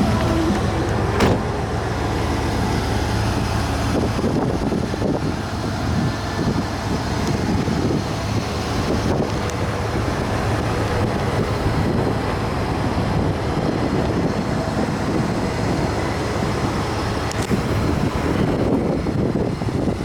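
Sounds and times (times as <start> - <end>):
road noise: 0.0 - 20.0
vehicle engine running: 0.0 - 20.0
wind on microphone: 0.0 - 20.0.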